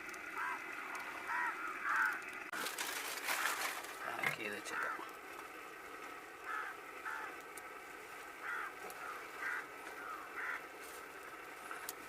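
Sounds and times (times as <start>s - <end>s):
bird calling: 0.0s - 2.5s, 3.1s - 11.8s.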